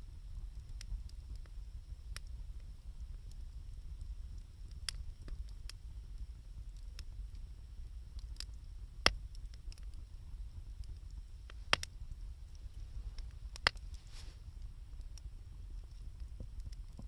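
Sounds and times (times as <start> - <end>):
low rumble of fire: 0.0 - 17.0
wood fire crackling: 0.0 - 17.0
sharp pops of burning wood: 0.4 - 17.0.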